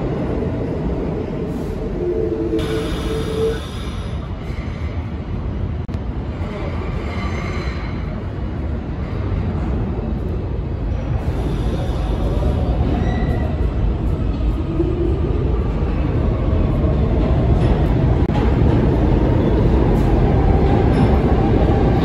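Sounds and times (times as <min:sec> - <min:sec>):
subway train rumbling in tunnel: 0:00.0 - 0:22.0.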